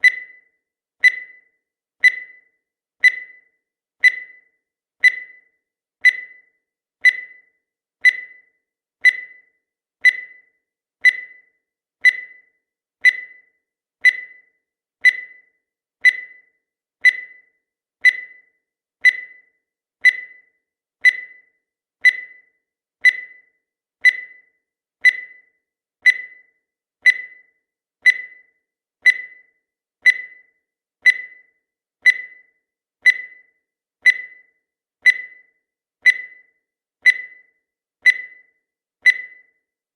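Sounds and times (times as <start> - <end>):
timer beeping: 0.0 - 39.8.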